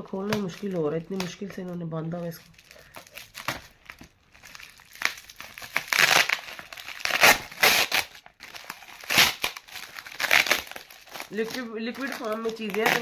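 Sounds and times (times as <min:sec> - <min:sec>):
parcel wrapping crinkling and tearing: 0:00.0 - 0:13.0.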